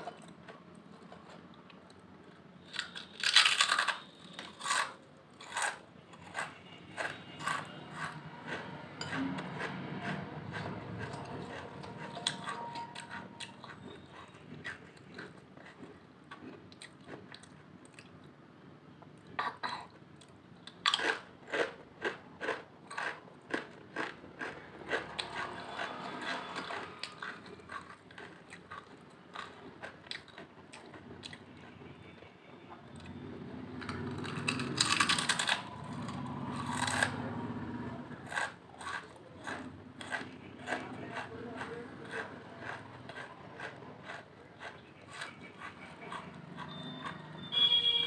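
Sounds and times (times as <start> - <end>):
chips being chewed: 0.0 - 18.3, 20.2 - 31.8, 32.9 - 48.0.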